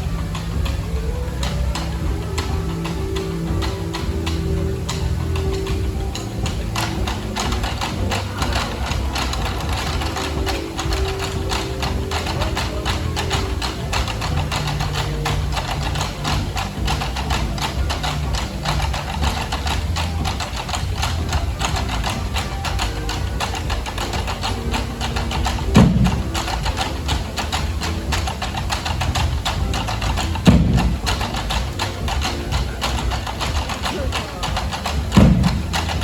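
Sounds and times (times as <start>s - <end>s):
loud low drum booms: 0.0s - 36.0s
street drumming band: 0.0s - 36.0s.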